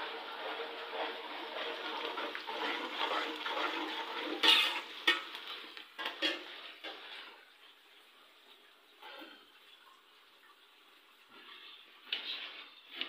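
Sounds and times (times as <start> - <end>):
water running into sink: 0.0 - 13.0.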